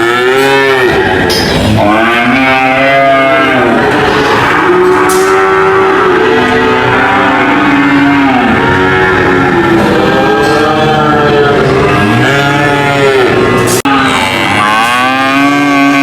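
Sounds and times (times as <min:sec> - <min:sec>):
cattle mooing: 0:00.0 - 0:16.0.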